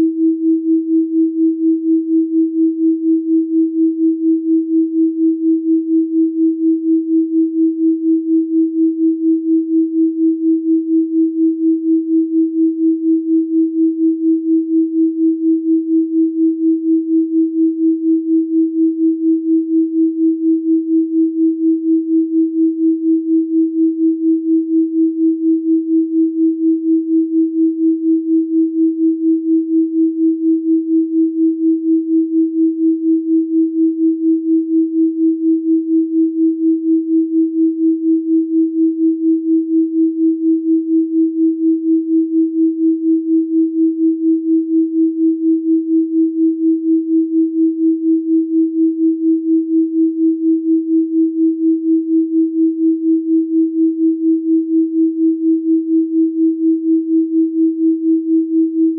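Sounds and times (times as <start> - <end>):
pulsing sine tone: 0.0 - 58.9.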